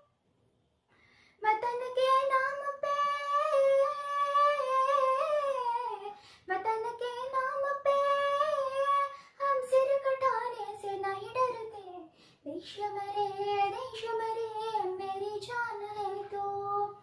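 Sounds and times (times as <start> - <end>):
girl singing unaccompanied: 1.4 - 17.0.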